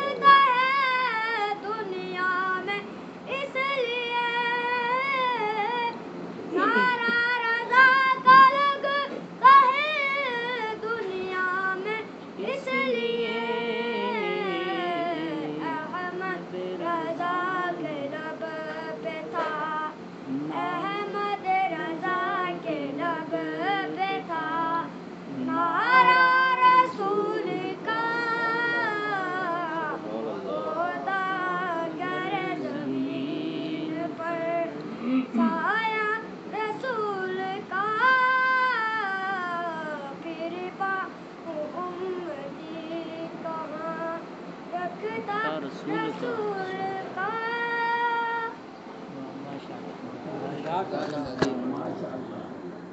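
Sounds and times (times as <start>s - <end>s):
boy singing unaccompanied: 0.0s - 48.8s.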